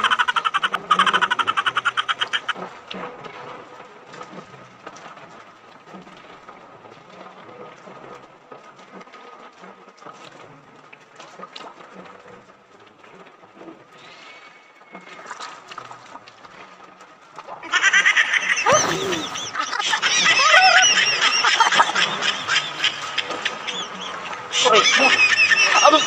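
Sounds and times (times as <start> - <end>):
faint splashing water: 0.0 - 26.0.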